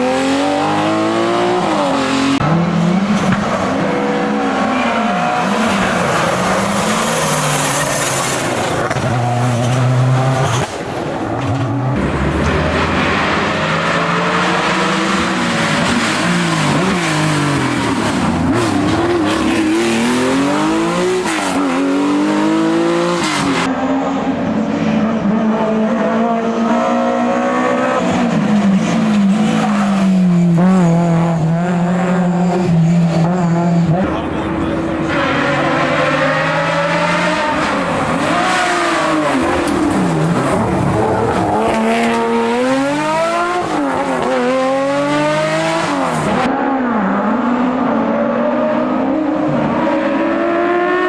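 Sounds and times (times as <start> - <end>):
rally car engine revving: 0.0 - 51.0.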